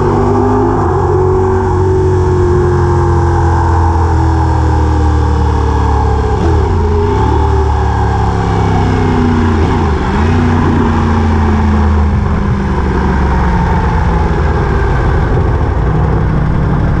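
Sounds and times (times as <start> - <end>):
vehicle engine running loudly: 0.0 - 17.0.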